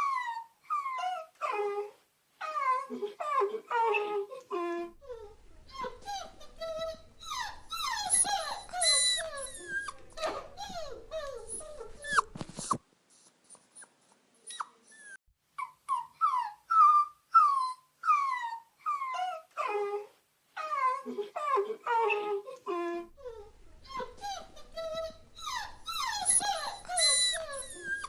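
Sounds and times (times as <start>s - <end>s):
dogs whining and whimpering: 0.0s - 12.8s, 13.5s - 28.0s.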